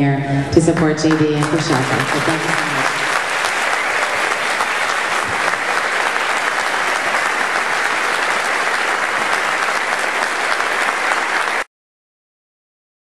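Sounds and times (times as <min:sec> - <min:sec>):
audience applauding: 0:01.1 - 0:11.7.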